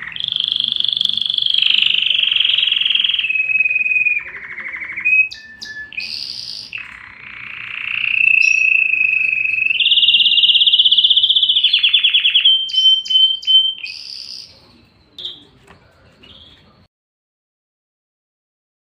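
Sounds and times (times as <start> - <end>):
canary singing trills: 0.0 - 16.9.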